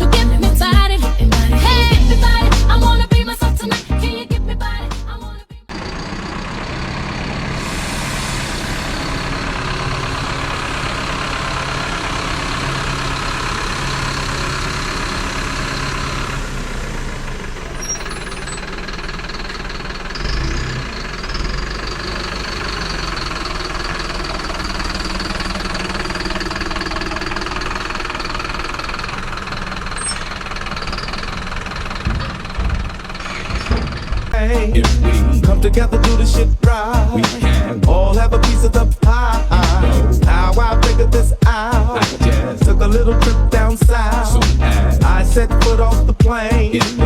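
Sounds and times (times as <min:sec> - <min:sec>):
diesel truck engine running: 0:00.0 - 0:47.0.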